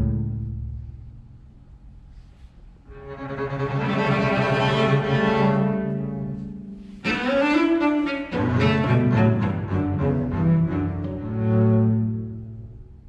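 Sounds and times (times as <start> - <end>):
cello and double bass duet: 0.0 - 13.0.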